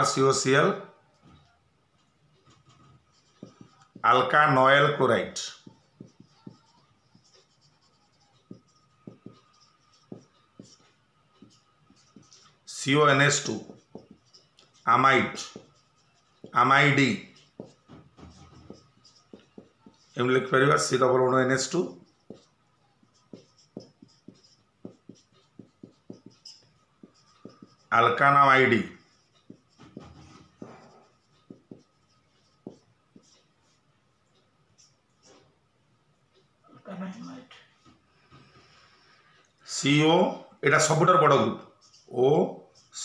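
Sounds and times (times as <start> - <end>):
marker writing on whiteboard: 0.0 - 35.7, 37.7 - 43.0.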